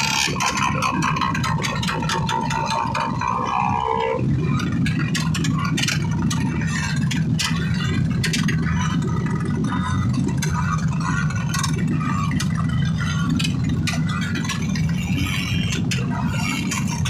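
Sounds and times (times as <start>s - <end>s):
sharp clicks and rattles: 0.0s - 17.0s
vehicle engine humming: 0.0s - 17.0s.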